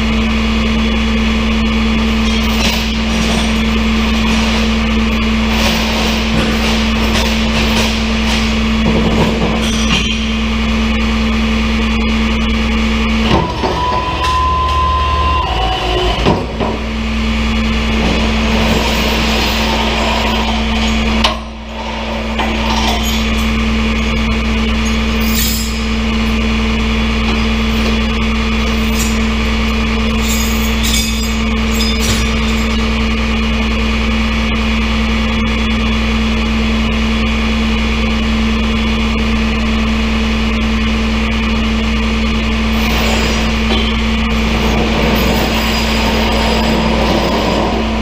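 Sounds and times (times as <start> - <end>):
truck engine running: 0.0 - 48.0.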